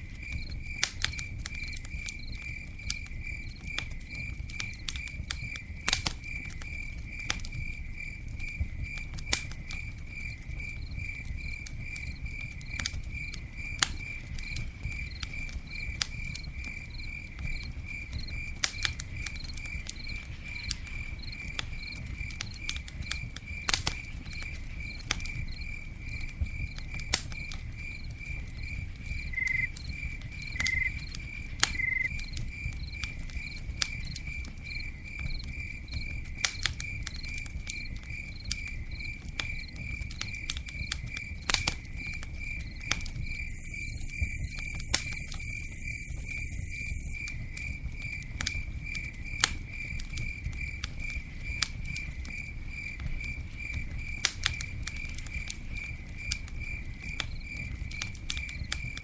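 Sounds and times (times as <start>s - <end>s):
campfire crackling and popping: 0.0s - 59.0s
cricket chirping: 0.0s - 59.0s.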